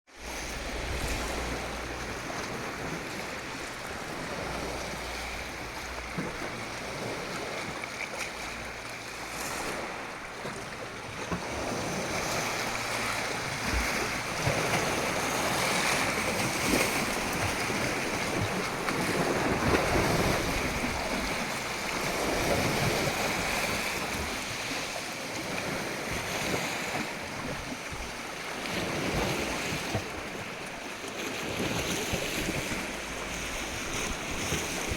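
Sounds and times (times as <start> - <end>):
wind on microphone: 0.1 - 8.2, 8.8 - 34.9
ocean waves breaking on shore: 0.1 - 34.9.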